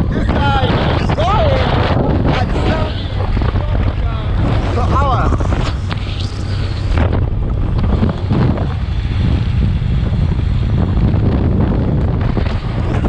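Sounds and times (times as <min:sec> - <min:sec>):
motorcycle engine and road rumble: 0:00.0 - 0:13.0
wind buffeting microphone: 0:00.0 - 0:13.0.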